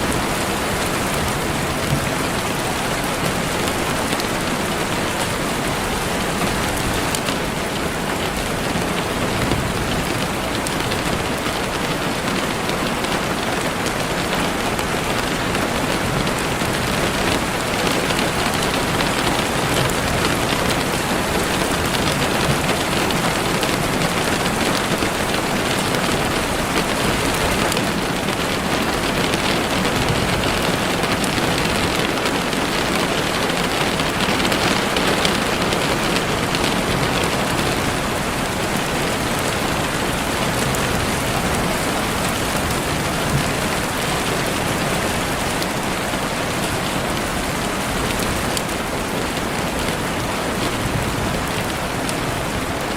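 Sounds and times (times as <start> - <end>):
heavy rain on leaves: 0.0 - 52.9.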